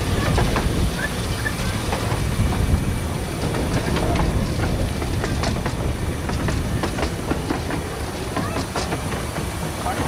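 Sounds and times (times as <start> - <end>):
train rumbling along track: 0.0 - 10.0
wheels clicking over rails: 0.0 - 10.0.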